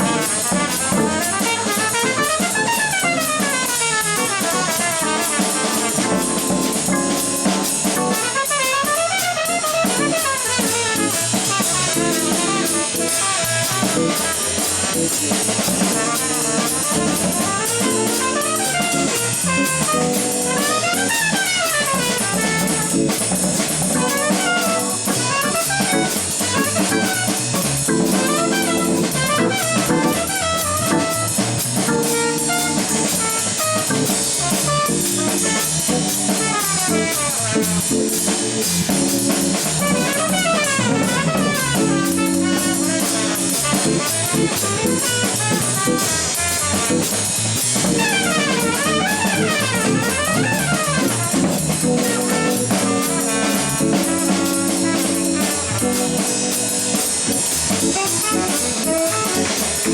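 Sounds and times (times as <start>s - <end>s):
drum kit cymbals: 0.0s - 59.9s
horn solo: 0.0s - 59.9s
organ chords: 0.0s - 59.9s.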